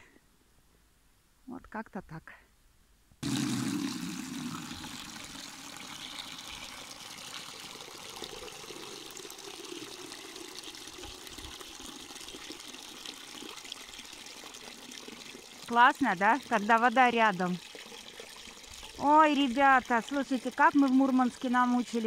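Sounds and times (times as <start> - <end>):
water pouring into a bucket: 3.2 - 22.0.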